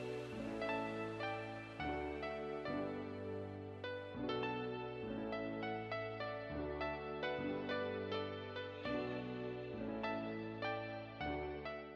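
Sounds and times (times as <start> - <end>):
gentle instrumental music: 0.0 - 11.9.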